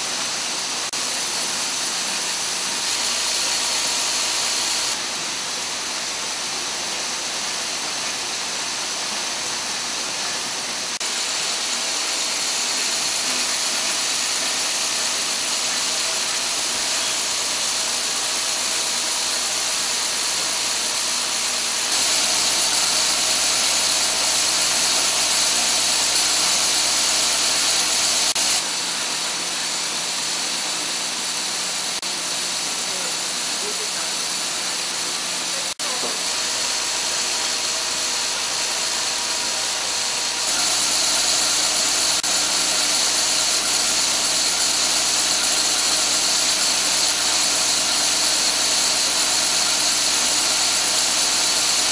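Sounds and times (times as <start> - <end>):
machine hissing mechanical whir: 0.0 - 51.9.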